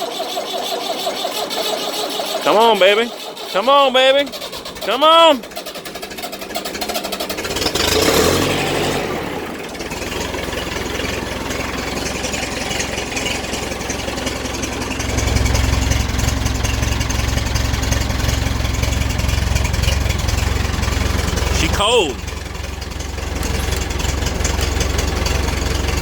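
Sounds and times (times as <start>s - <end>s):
diesel engine running: 0.0s - 26.0s
starter motor cranking: 0.0s - 26.0s.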